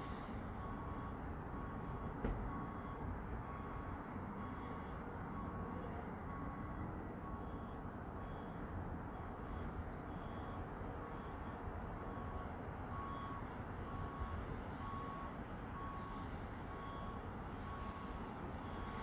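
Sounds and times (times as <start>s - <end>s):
reversing alarm beeping: 0.0s - 19.0s.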